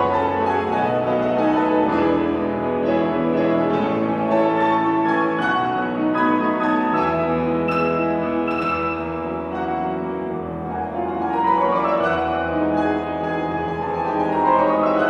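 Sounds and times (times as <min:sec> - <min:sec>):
solo grand piano: 0:00.0 - 0:15.0.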